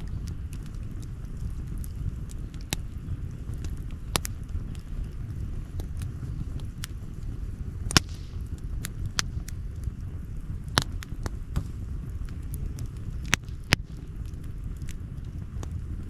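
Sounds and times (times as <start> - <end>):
campfire crackling: 0.0 - 16.0
low rumble: 0.0 - 16.0.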